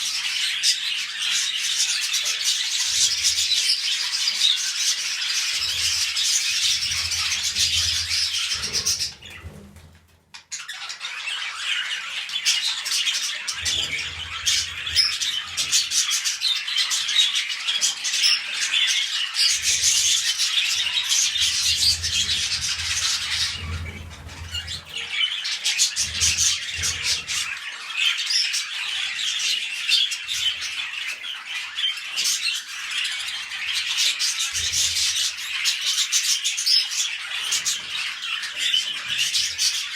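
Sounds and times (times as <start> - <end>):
budgerigars chattering: 0.0 - 9.6, 10.6 - 39.9.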